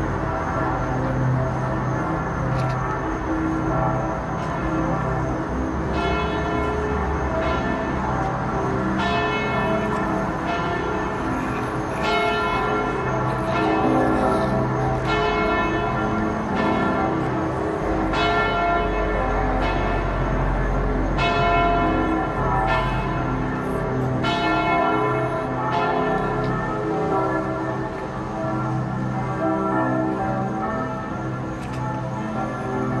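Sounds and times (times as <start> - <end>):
low dark drone: 0.0 - 33.0.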